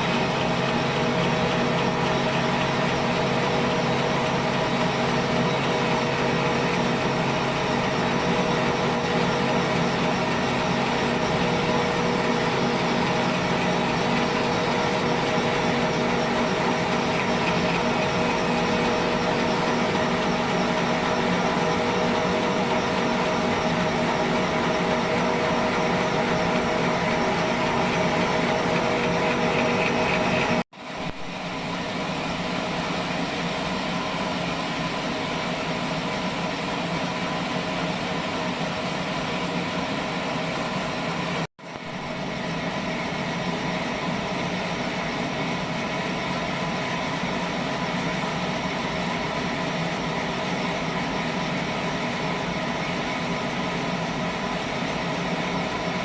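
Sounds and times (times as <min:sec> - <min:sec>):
sawmill saw humming: 0:00.0 - 0:56.0.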